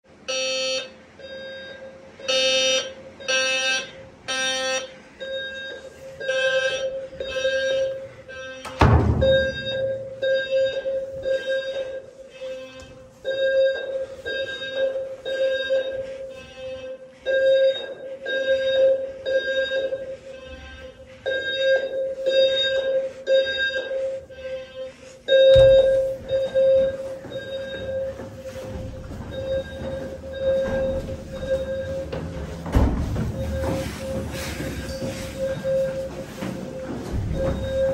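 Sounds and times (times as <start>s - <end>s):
fire alarm low tone beeps: 0.2s - 37.9s.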